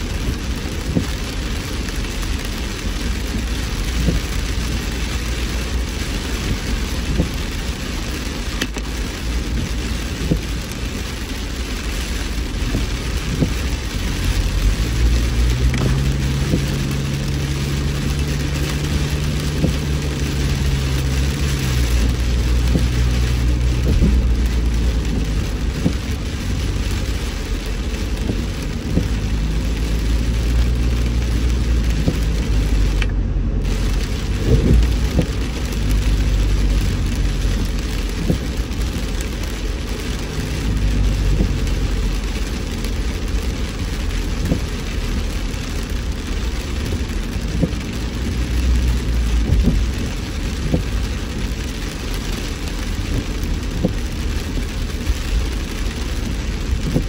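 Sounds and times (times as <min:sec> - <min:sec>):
car rumble and tyres on wet road: 0:00.0 - 0:57.0
rain hitting a car: 0:00.0 - 0:57.0.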